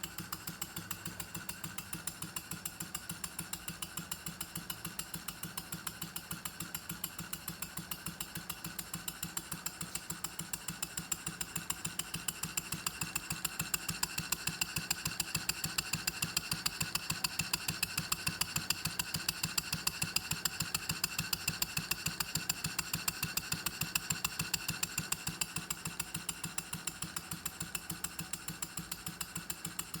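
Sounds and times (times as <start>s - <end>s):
model steam engine running: 0.0s - 30.0s.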